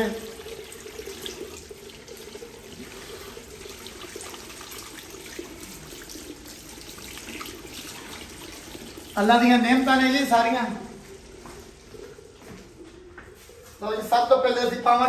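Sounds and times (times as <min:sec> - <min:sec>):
water running from a tap: 0:00.0 - 0:12.4
hands washing under water: 0:00.0 - 0:13.8.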